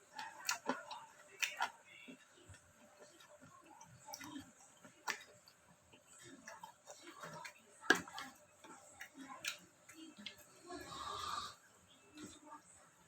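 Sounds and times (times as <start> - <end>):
wet chewing sounds: 0.0 - 13.0.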